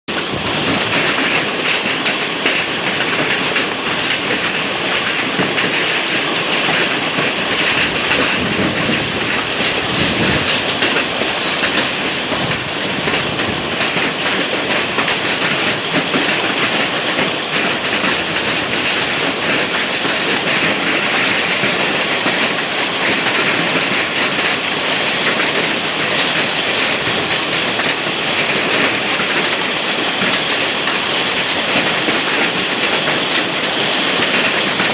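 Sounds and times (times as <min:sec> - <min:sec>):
hailstones pelting down: 0:00.1 - 0:34.9.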